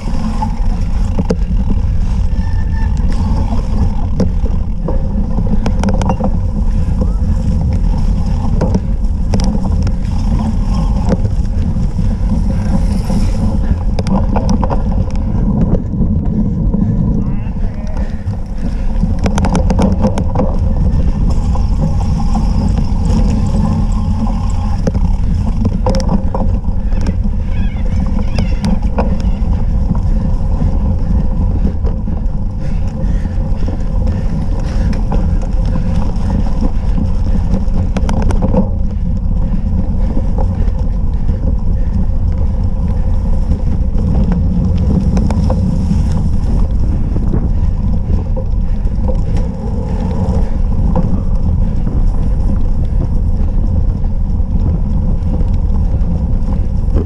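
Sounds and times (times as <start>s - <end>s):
bike knocks and rattles: 0.0s - 57.0s
wind rumble on microphone: 0.0s - 57.0s.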